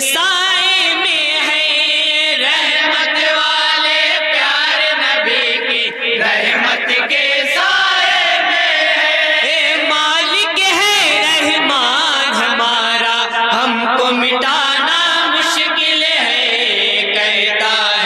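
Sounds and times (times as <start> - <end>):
men singing in chorus: 0.0 - 18.0.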